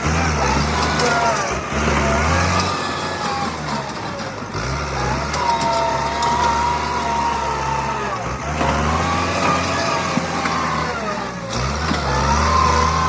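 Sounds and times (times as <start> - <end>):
bulldozer diesel engine revving: 0.0 - 13.0.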